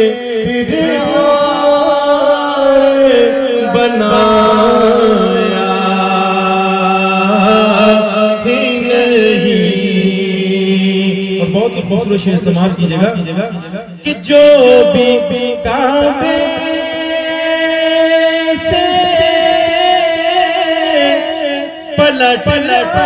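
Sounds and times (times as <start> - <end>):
man singing into microphone: 0.0 - 23.0.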